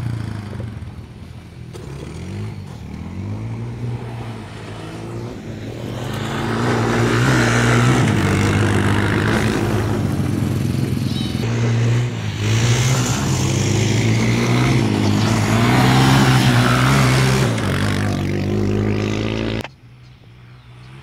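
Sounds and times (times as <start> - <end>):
quad engine revving: 0.0 - 1.1, 1.7 - 19.8.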